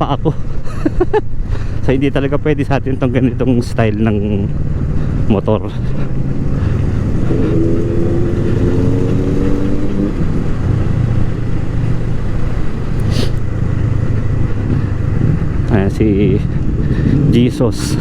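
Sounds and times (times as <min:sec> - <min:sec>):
motorcycle engine running: 0:01.8 - 0:17.5
wind rush on microphone: 0:03.0 - 0:18.0.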